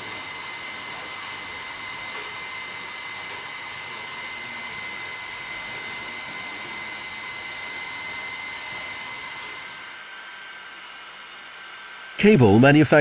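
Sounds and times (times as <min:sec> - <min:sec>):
hot air tool blowing: 0:00.0 - 0:13.0
thin high whine: 0:00.0 - 0:13.0.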